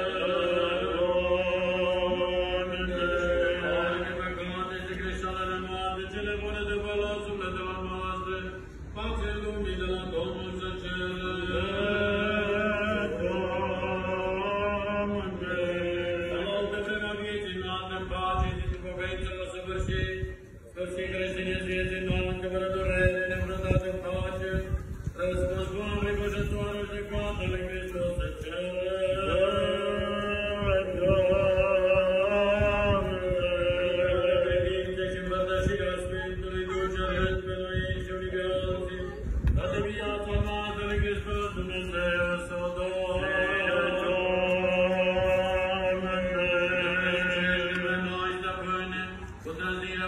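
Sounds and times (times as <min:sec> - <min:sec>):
church choir chanting: 0:00.0 - 0:19.9, 0:25.2 - 0:50.0.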